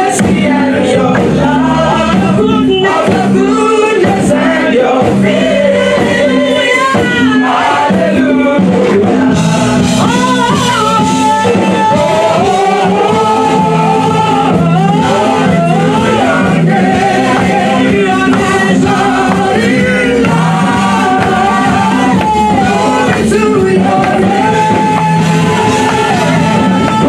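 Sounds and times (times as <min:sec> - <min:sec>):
choir singing in harmony: 0:00.0 - 0:27.0
woman singing lead vocal: 0:00.0 - 0:27.0.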